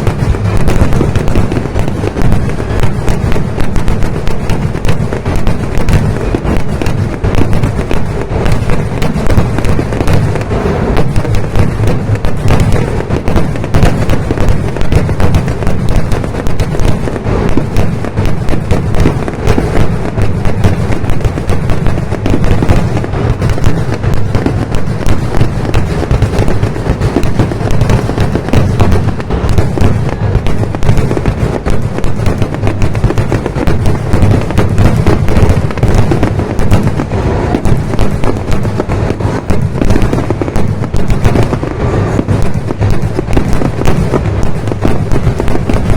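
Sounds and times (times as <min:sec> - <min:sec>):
fireworks bangs and cracks: 0:00.0 - 0:45.9.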